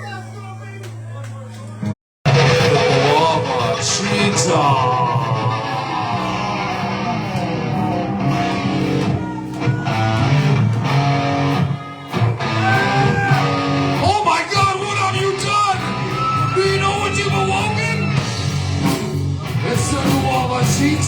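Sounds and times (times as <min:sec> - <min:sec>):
electric guitar with bending notes: 0:02.3 - 0:21.0.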